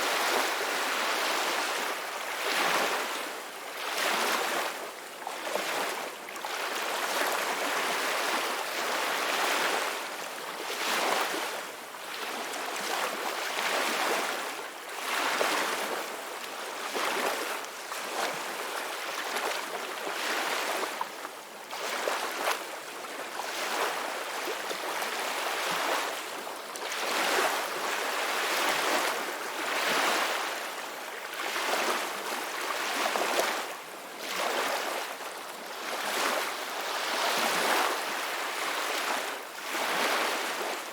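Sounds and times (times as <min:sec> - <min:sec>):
ocean waves breaking on shore: 0:00.0 - 0:11.6, 0:12.2 - 0:40.9.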